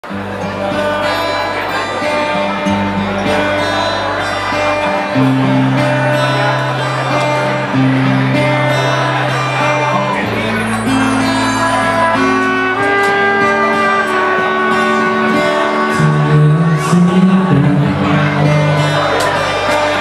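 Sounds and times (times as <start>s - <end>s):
guitar: 0.0s - 20.0s
sustained bass line: 2.7s - 20.0s.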